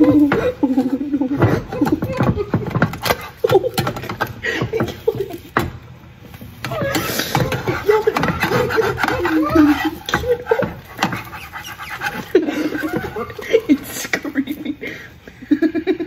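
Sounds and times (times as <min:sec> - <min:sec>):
young women laughing: 0:00.0 - 0:05.6, 0:06.7 - 0:16.0.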